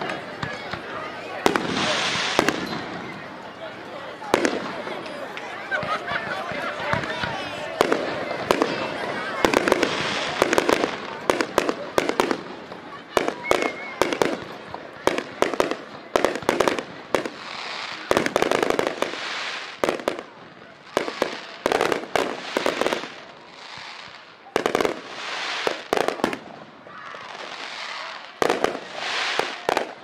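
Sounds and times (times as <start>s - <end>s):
fireworks bangs and pops: 0.0s - 3.3s, 4.2s - 30.0s
fireworks crackling: 0.0s - 30.0s.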